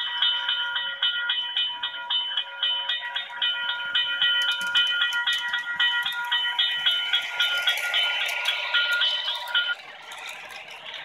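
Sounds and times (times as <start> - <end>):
crossing bell ringing: 0.0 - 11.0
model train clicking: 0.0 - 11.0.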